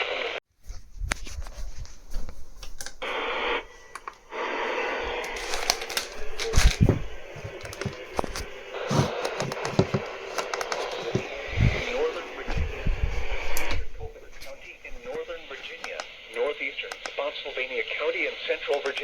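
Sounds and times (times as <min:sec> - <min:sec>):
radio static hiss and crackles: 0:00.0 - 0:00.4, 0:01.2 - 0:19.0.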